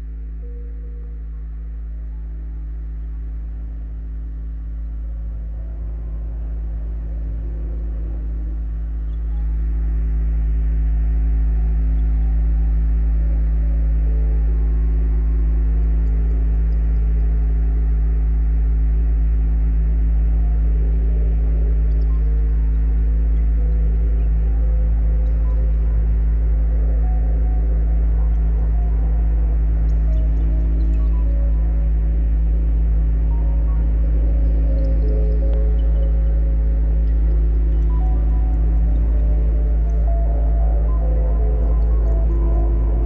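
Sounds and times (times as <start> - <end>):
synthesizer low rumble drone: 0.0 - 43.0.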